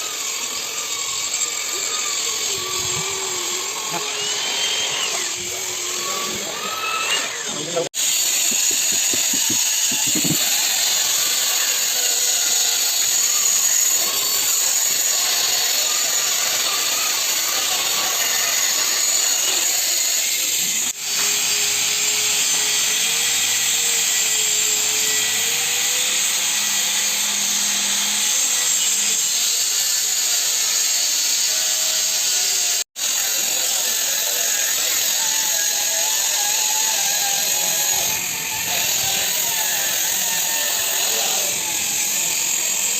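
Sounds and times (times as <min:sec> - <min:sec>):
electric sander whirring: 0:00.0 - 0:42.9.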